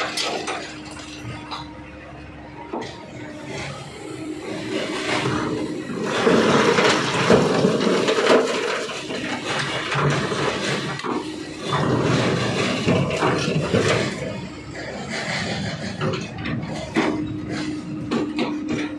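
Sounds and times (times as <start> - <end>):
excavator working: 0.0 - 18.9.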